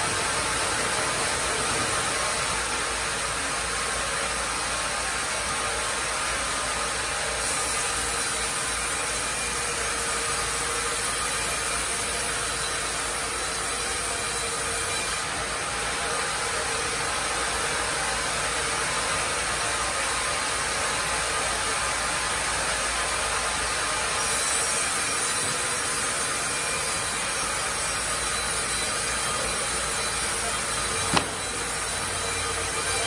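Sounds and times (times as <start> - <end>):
sawmill machine noise: 0.0 - 33.0.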